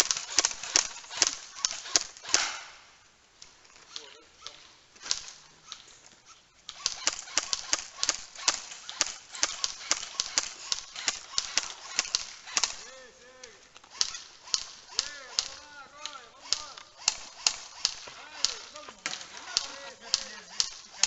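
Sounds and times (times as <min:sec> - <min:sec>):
airsoft guns firing: 0:00.0 - 0:03.1, 0:03.8 - 0:21.0.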